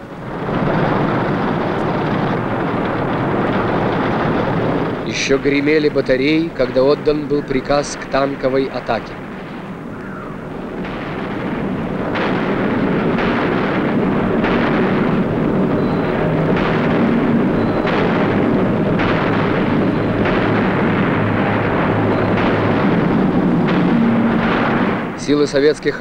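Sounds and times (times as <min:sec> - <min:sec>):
artillery firing: 0:00.0 - 0:26.0
continuous battle rumble: 0:00.0 - 0:26.0
shells exploding: 0:00.0 - 0:26.0.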